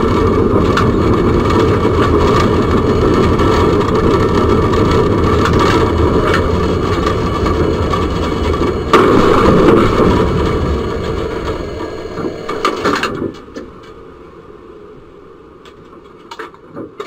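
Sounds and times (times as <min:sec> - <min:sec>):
tram rumbling and braking: 0:00.0 - 0:17.0.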